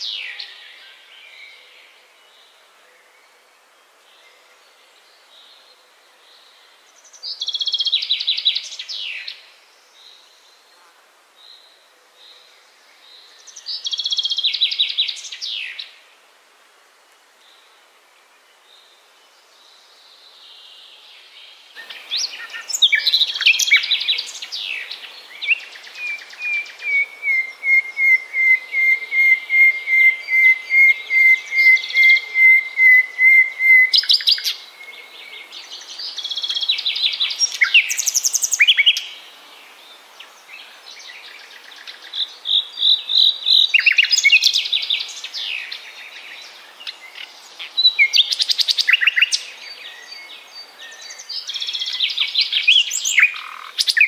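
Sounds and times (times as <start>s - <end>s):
nightingale singing: 0.0s - 3.4s, 4.2s - 10.6s, 11.6s - 16.0s, 18.3s - 54.0s.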